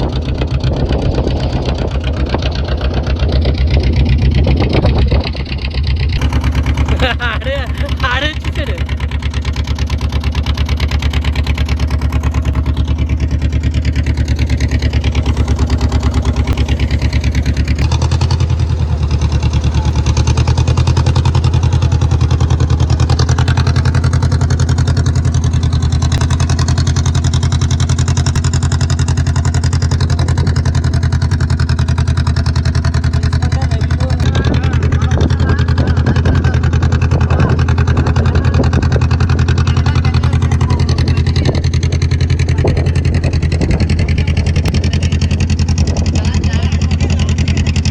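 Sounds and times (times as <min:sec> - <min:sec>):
motorboat engine running: 0:00.0 - 0:47.9.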